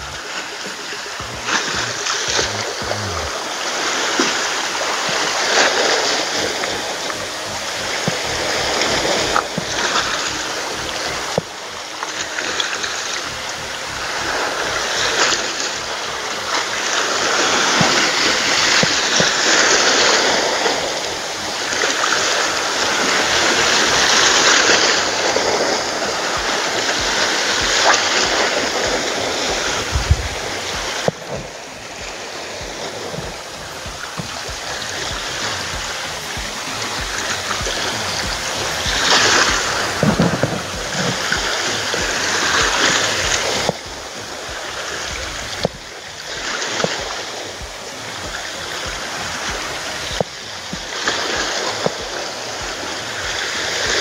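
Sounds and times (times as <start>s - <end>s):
waves splashing on rocky shore: 0.0s - 54.0s.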